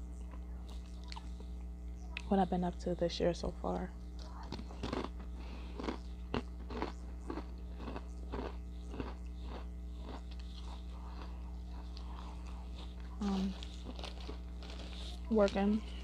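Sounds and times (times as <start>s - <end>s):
person chewing crunchy chips: 0.2s - 2.2s, 4.2s - 16.0s.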